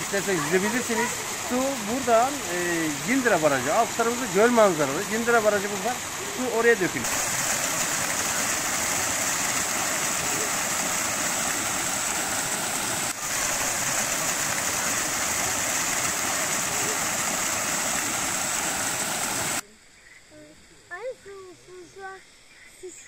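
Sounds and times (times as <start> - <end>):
waterfall rushing: 0.0 - 19.6.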